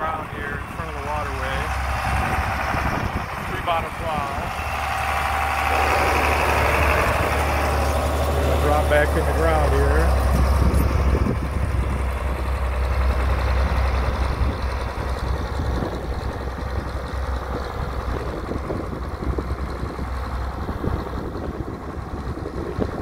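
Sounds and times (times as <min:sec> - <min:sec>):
tractor engine working under load: 0:00.0 - 0:23.0.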